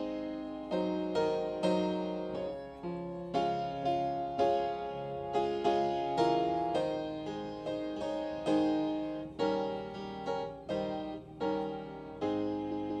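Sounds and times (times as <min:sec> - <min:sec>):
slow keyboard chords: 0:00.0 - 0:13.0.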